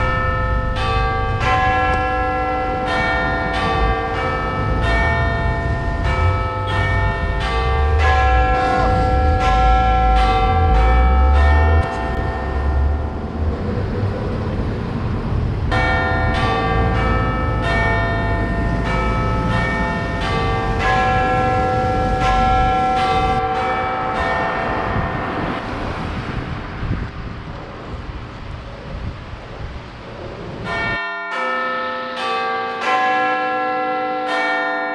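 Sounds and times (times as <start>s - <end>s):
church bells ringing a peal: 0.0s - 26.8s, 30.6s - 34.9s.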